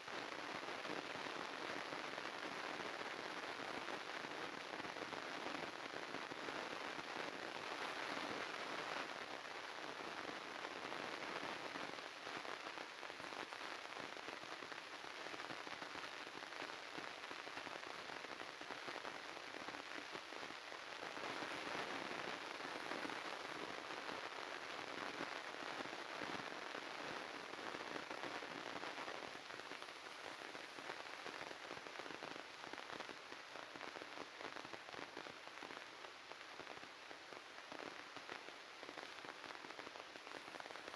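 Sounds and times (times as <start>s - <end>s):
crackling static: 0.0s - 40.9s.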